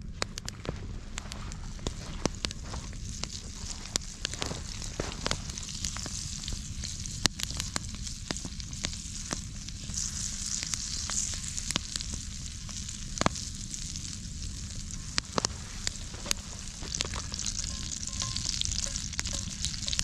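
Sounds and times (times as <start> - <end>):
campfire pops and crackles: 0.0 - 20.0
butter sizzling in a skillet: 1.8 - 20.0.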